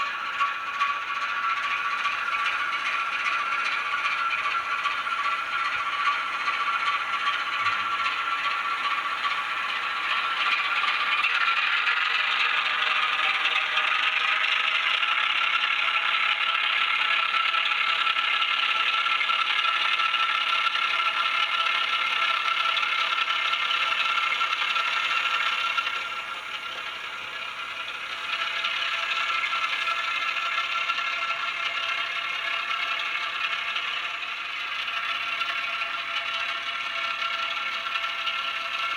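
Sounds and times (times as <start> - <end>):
model train rattle: 0.0 - 38.9.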